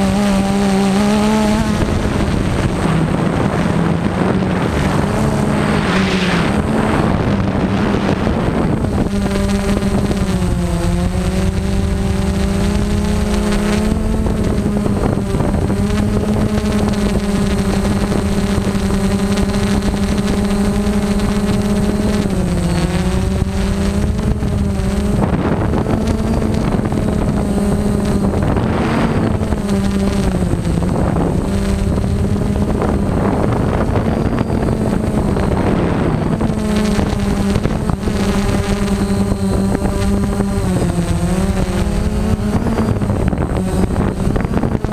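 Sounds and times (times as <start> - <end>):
drone propellers humming: 0.0 - 44.9
wind on microphone: 0.0 - 44.9.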